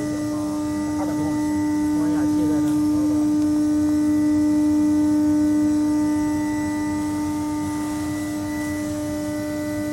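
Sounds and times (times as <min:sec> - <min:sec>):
electrical hum: 0:00.0 - 0:09.9.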